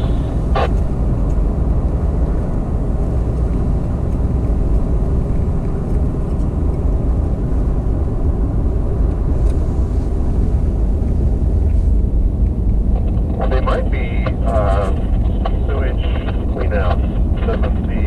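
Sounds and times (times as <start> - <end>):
road and engine rumble in vehicle: 0.0 - 18.0.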